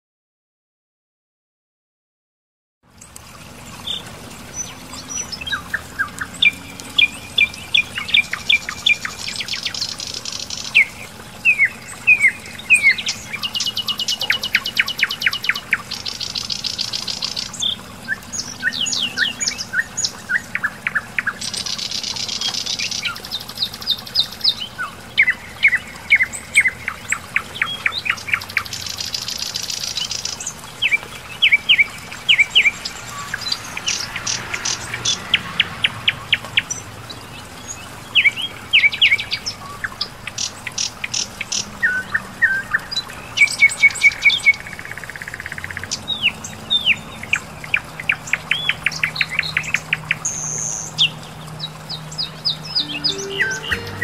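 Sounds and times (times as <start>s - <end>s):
songbirds chirping and trilling: 2.9s - 54.0s.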